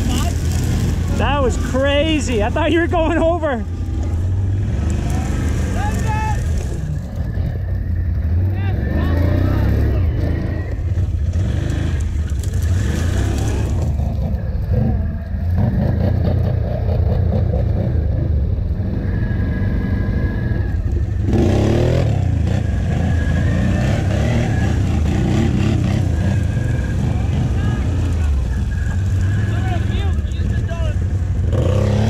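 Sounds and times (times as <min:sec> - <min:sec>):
atv engines revving: 0:00.0 - 0:32.0.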